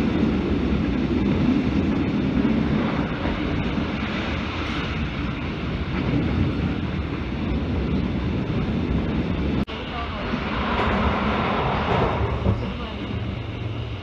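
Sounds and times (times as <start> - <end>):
train wheels rumbling on rails: 0.0 - 14.0
wind noise: 0.0 - 14.0.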